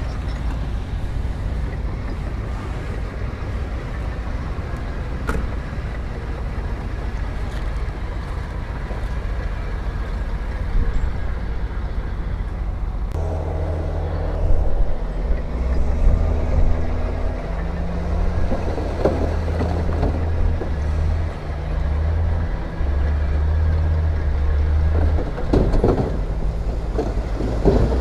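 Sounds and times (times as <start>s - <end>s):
heavy diesel machinery running: 0.0s - 28.0s
loud steady engine note: 0.0s - 28.0s.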